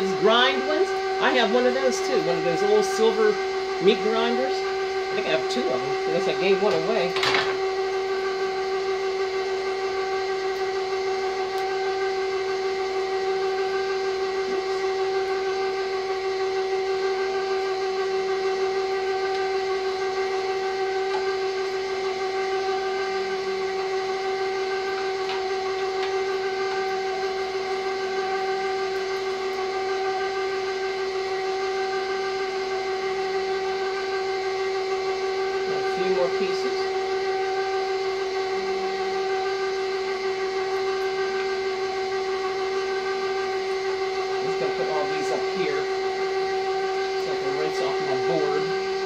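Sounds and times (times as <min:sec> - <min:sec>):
meat grinder motor whine: 0:00.0 - 0:49.0.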